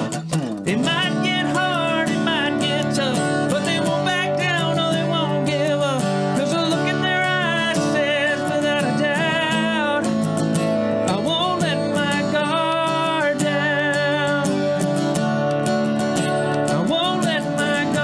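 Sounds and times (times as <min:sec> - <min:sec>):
man singing country song: 0:00.0 - 0:18.0
strummed acoustic guitar: 0:00.0 - 0:18.0.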